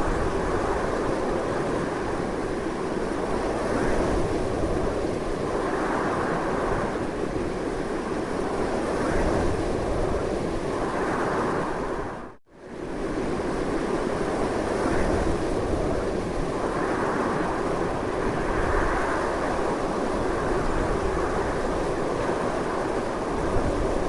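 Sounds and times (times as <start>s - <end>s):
strong wind blowing: 0.0s - 24.0s.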